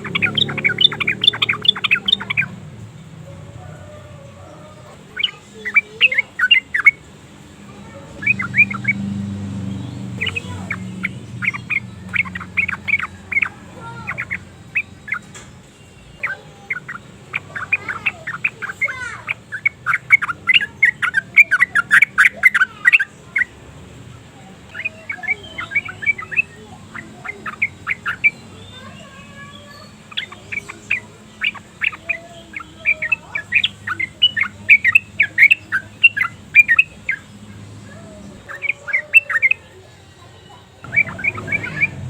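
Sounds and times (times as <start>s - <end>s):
bulbul singing chirped notes: 0.0s - 42.0s.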